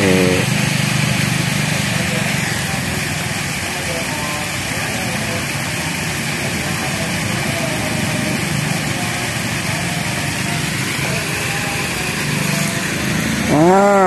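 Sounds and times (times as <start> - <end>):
faint voices: 0.0 - 14.0.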